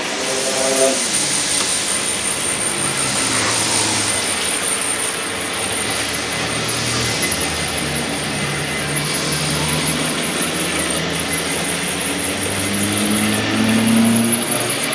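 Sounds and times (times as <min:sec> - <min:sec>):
broad hiss: 0:00.0 - 0:12.6
machine humming: 0:00.0 - 0:14.9.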